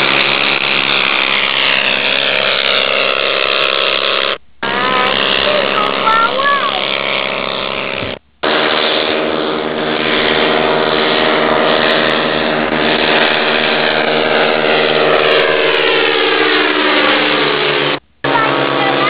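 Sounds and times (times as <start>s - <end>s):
ultralight aircraft engines droning: 0.0s - 19.0s.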